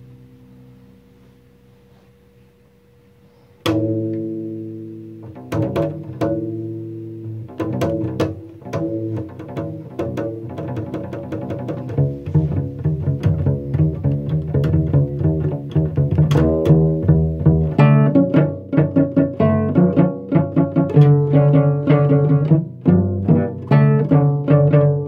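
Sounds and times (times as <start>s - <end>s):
low bass line: 2.8s - 25.0s
cello music: 3.6s - 25.0s.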